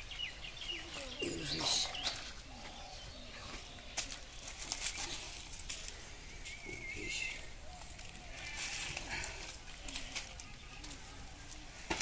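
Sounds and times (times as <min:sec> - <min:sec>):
rustling of dry leaves: 0:00.0 - 0:12.0.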